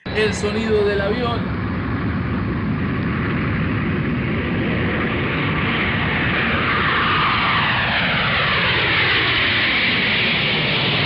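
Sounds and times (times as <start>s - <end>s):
airplane flying past: 0.0s - 11.0s.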